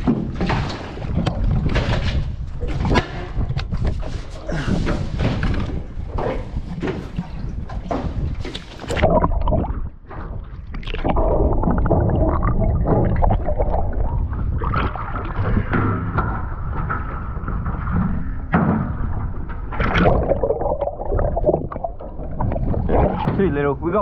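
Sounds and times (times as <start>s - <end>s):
seawater sloshing and gurgling: 0.0s - 24.0s.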